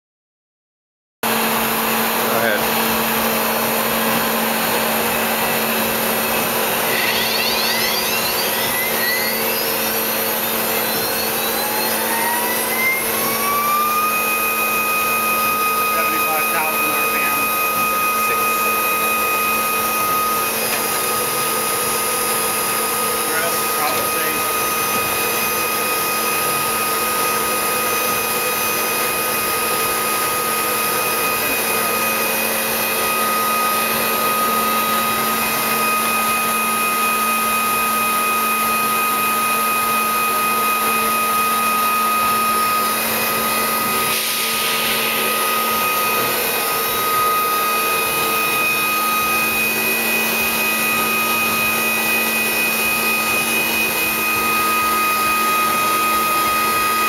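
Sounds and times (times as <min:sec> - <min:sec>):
grinder spindle whine: 0:01.3 - 0:57.0
machine hum and hiss: 0:01.3 - 0:57.0.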